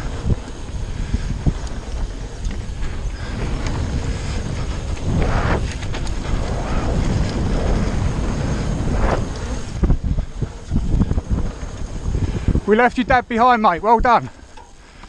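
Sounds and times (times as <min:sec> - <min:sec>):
bike rattling with sharp knocks: 0:00.0 - 0:13.5
tyres rumbling over dirt: 0:00.0 - 0:15.0
wind buffeting microphone: 0:00.0 - 0:15.0.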